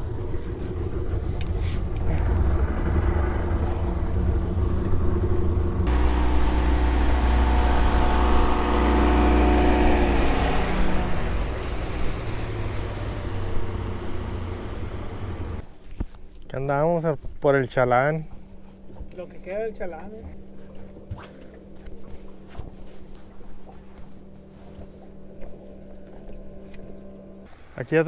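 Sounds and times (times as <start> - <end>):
outboard motor running: 0.0 - 16.4, 17.2 - 27.5.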